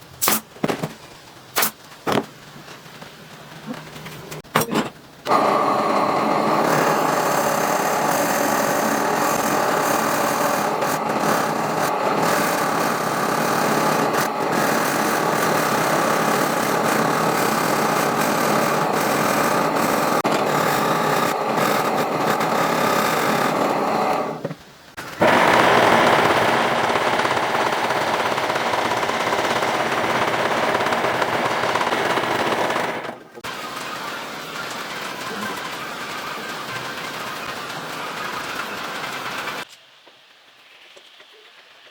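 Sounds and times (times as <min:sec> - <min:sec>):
power tool cutting wood: 0:05.3 - 0:24.4, 0:25.0 - 0:39.6.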